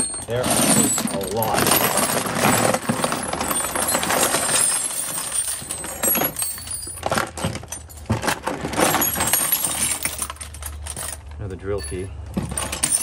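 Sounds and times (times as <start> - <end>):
metal tools clattering: 0.0 - 13.0.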